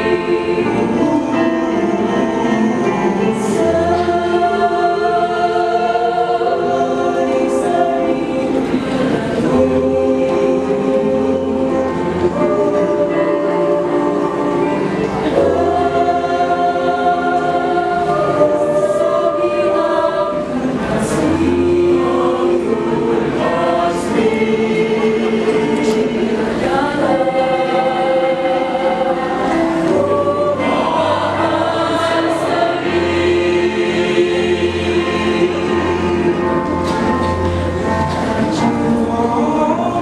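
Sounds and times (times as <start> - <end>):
choir singing in harmony: 0.0 - 40.0.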